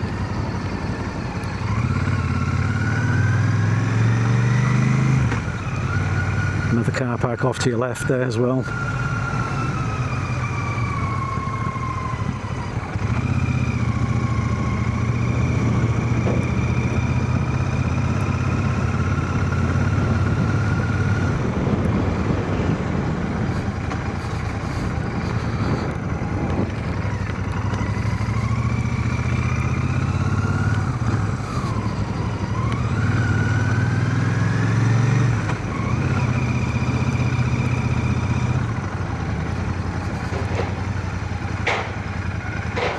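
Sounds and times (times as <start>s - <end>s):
motorcycle engine running: 0.0s - 7.9s, 8.5s - 42.9s.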